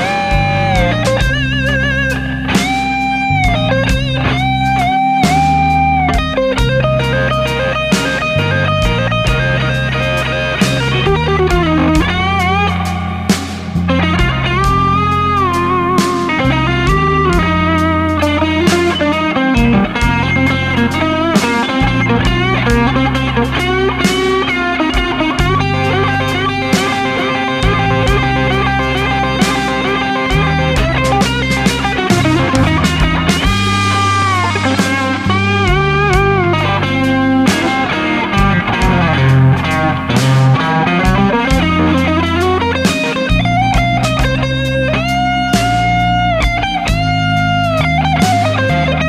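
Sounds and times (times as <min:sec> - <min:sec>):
bass guitar: 0:00.0 - 0:49.0
drums: 0:00.0 - 0:49.0
electric guitar solo: 0:00.0 - 0:49.0.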